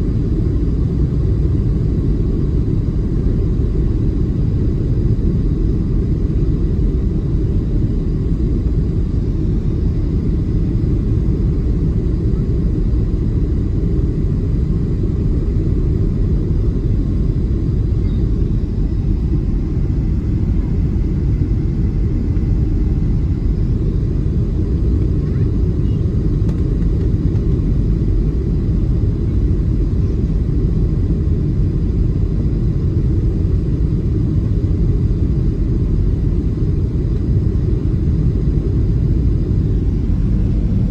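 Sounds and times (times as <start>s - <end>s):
airplane cabin low rumble: 0.0s - 40.9s.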